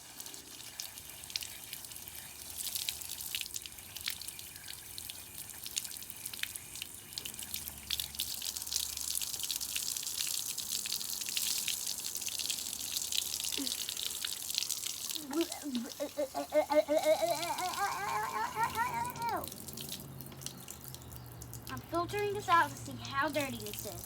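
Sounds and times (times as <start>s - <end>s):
water splashing and dripping: 0.0s - 24.0s.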